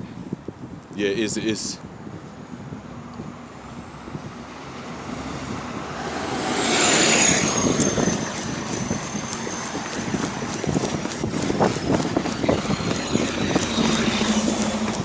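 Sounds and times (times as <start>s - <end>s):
bus engine: 2.6s - 15.0s.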